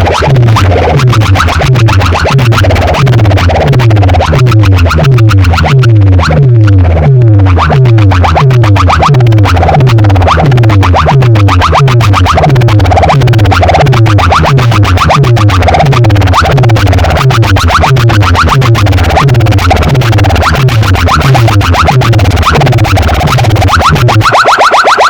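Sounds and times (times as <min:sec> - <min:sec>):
electronic dance music: 0:00.0 - 0:25.0
heavy bass falling sweeps: 0:00.3 - 0:24.2.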